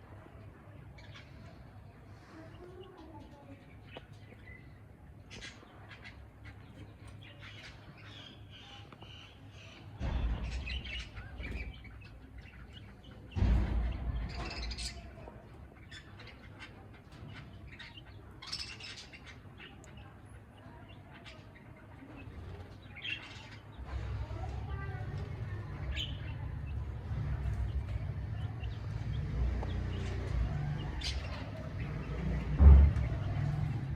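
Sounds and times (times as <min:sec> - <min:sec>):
budgies chirping: 0:00.4 - 0:33.9.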